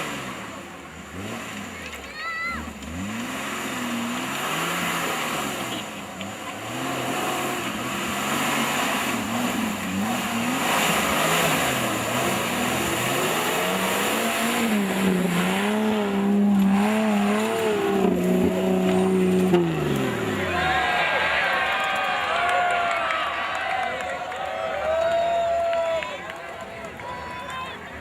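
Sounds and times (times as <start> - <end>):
off-road vehicle engine revving: 0.0 - 22.8.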